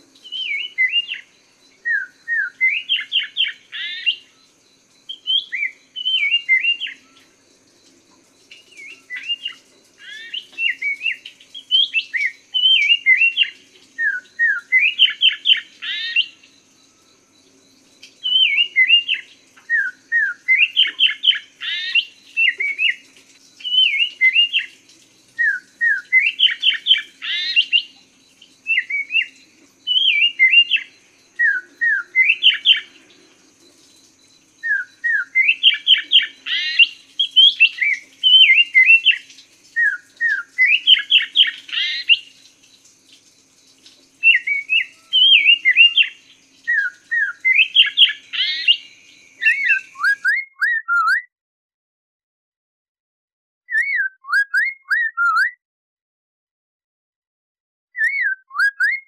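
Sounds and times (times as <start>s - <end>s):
bird singing whistled notes: 0.0s - 51.3s, 53.7s - 55.6s, 58.0s - 59.0s.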